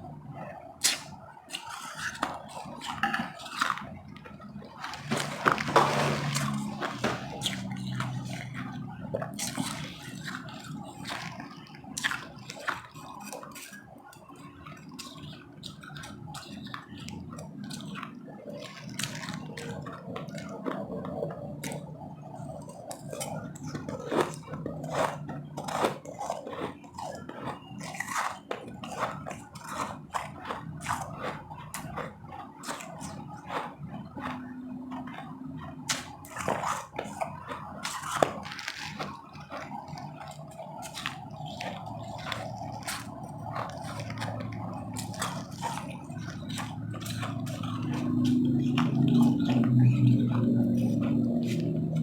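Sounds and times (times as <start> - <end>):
ice being chewed: 0.0 - 52.0.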